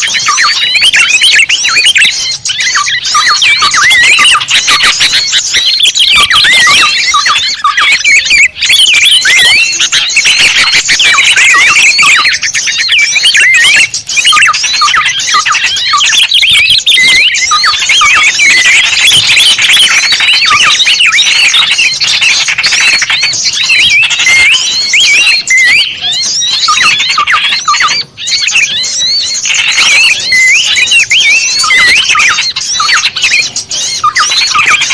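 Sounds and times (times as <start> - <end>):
songbirds chirping and twittering: 0.0 - 34.9.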